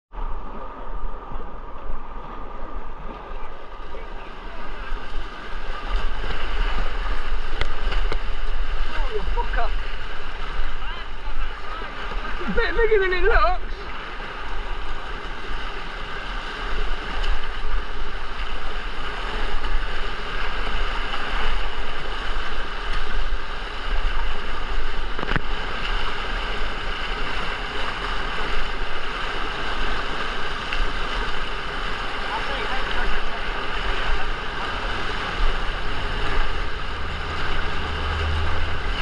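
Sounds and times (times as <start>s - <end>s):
river water rushing: 0.2s - 39.0s.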